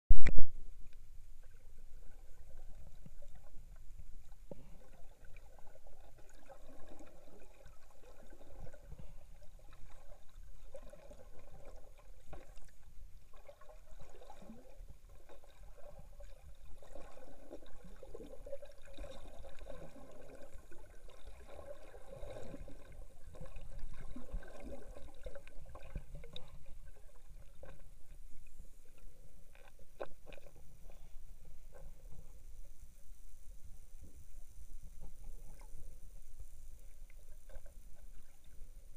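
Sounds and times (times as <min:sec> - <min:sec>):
water gurgling and sloshing: 0:00.3 - 0:38.9.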